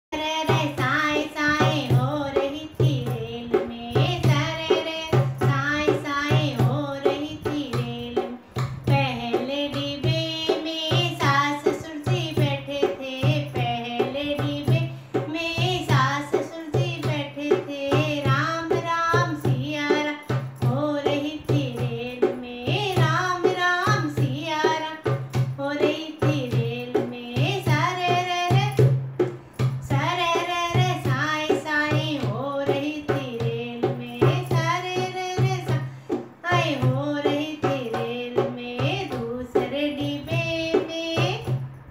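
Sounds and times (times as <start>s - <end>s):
woman singing folk song: 0.2s - 41.7s
hand drum beat: 0.2s - 41.9s.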